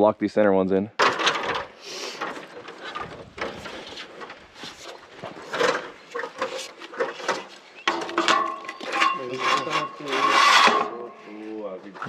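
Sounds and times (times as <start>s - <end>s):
knocks and clatter on steel tubing: 1.0s - 11.2s.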